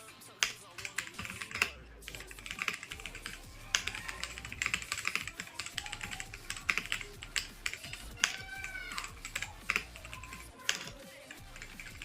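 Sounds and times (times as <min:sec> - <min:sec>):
mechanical keyboard typing: 0:00.4 - 0:12.0.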